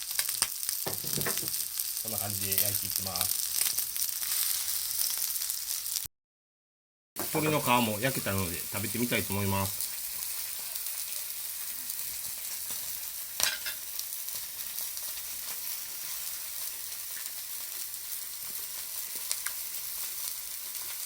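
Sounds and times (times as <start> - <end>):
chicken and onions sizzling: 0.0 - 6.1, 7.2 - 21.0.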